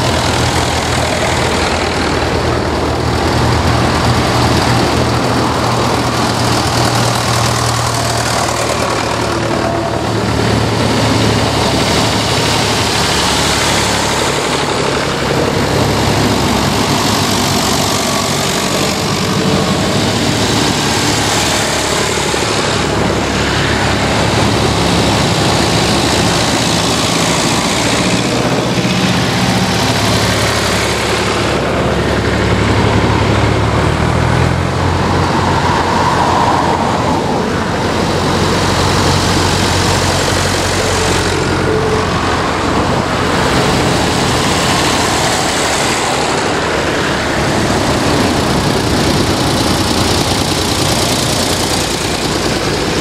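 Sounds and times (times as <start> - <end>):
car passing: 0.0 - 53.0
tractor engines passing: 0.0 - 53.0.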